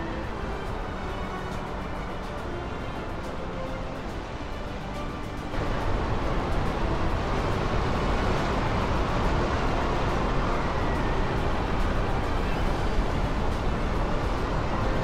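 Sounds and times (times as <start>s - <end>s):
waves breaking on shore: 0.0s - 15.0s
wind blowing across microphone: 0.0s - 15.0s.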